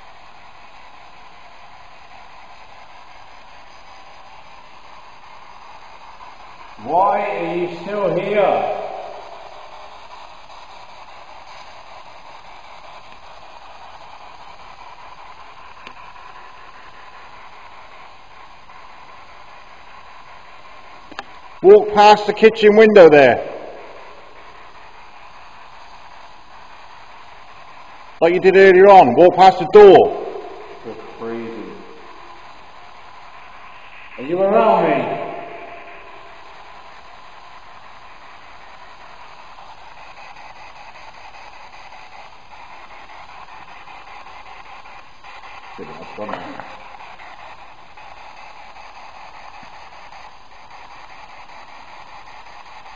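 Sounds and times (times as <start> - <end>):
recording hiss: 0.0 - 52.9.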